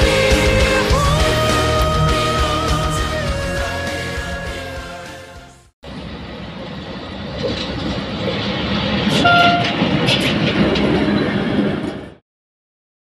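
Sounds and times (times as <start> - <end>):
train rumbling past: 0.0 - 12.2.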